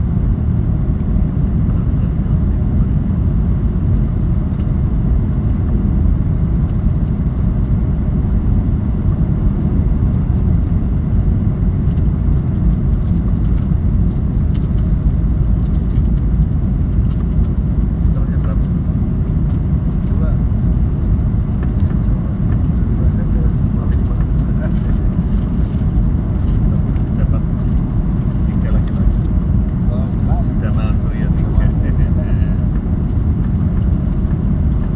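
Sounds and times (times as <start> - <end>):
airliner engines rumbling: 0.0 - 34.9.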